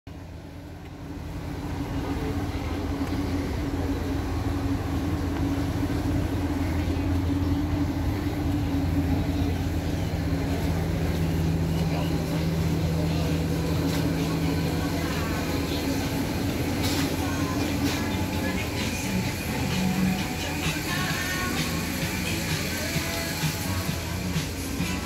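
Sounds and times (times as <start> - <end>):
low mechanical hum: 0.1 - 25.0
noisy outdoor background: 0.1 - 25.0.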